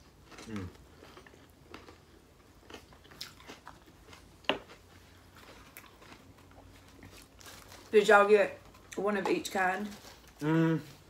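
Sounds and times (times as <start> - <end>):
people chewing food: 0.0 - 11.0.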